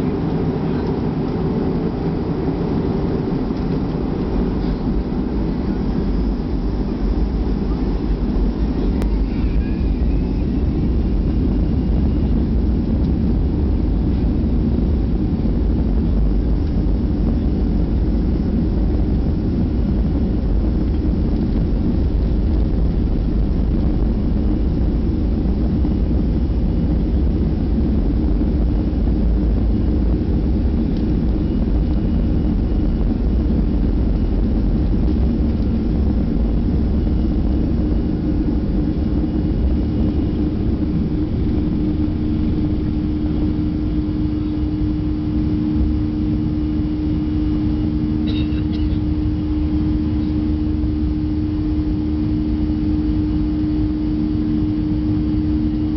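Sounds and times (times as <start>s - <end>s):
jet engine rumble: 0.0s - 55.9s
steady hum: 0.0s - 55.9s.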